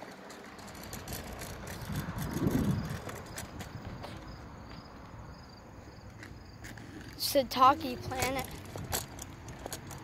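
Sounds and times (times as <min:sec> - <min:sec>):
scooter wheels rumbling on asphalt: 0:00.0 - 0:10.0.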